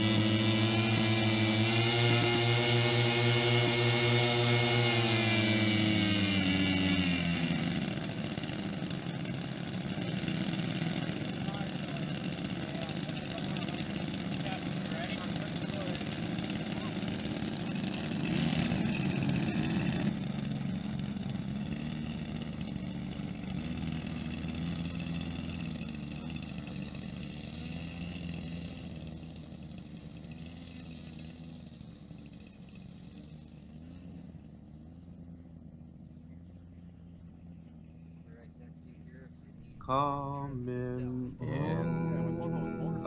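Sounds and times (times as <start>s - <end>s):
model plane piston engines idling: 0.0s - 43.0s.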